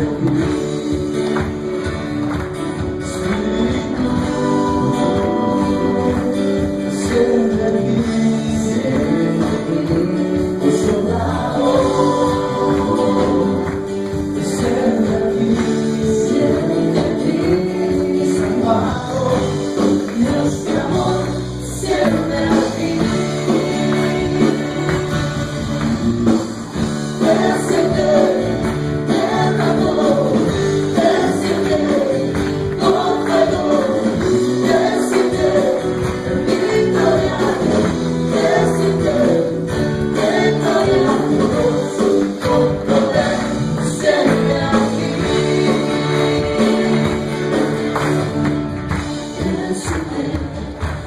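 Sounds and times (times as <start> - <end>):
people singing: 0.0 - 48.3, 48.9 - 51.0
band playing steady beat: 0.0 - 51.0.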